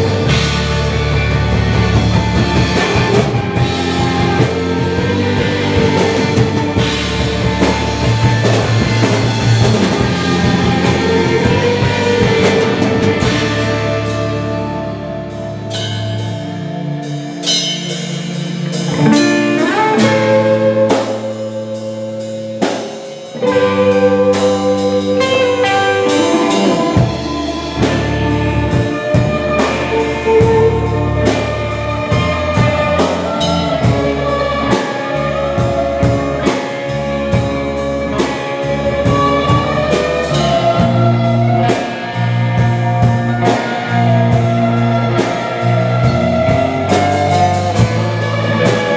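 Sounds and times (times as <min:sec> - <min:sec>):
bass: 0:00.0 - 0:48.9
drum kit: 0:00.0 - 0:48.9
electric guitars: 0:00.0 - 0:48.9.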